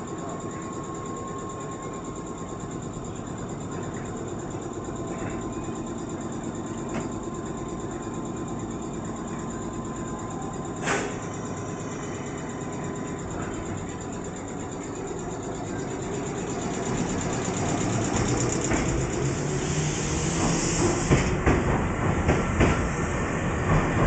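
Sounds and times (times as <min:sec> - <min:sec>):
train equipment mechanical hum: 0:00.0 - 0:24.0.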